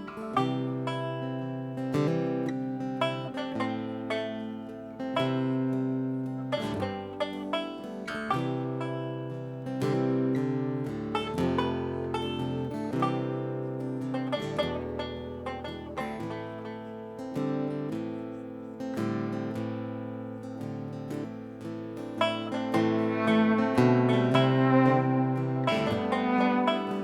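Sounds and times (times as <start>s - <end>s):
acoustic folk band playing: 0.0s - 27.0s
plucked guitar and banjo: 0.0s - 27.0s.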